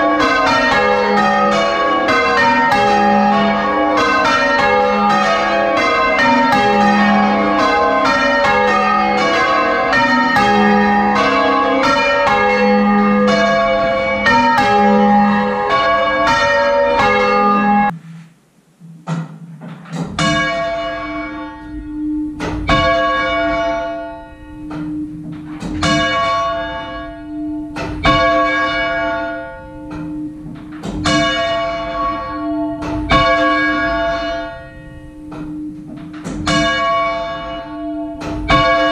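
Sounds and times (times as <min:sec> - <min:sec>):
church bells ringing changes: 0:00.0 - 0:17.9, 0:20.2 - 0:38.9.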